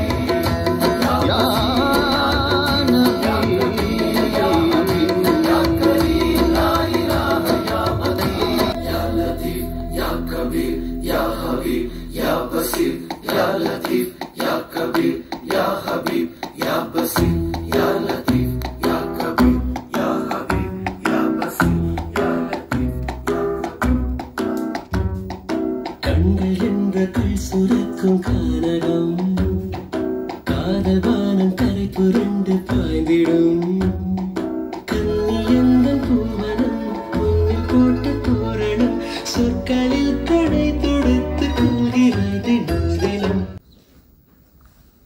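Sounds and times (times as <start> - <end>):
film song from a turntable: 0.0 - 45.0.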